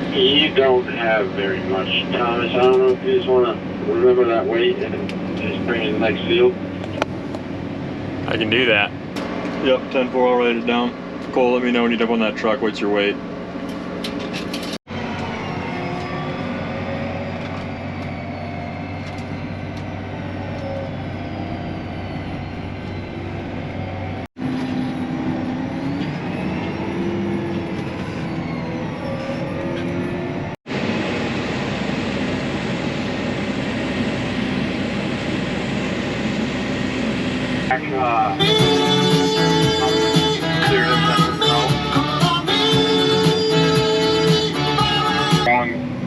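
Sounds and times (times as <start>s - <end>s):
harvester engine drone with whine: 0.0s - 46.0s.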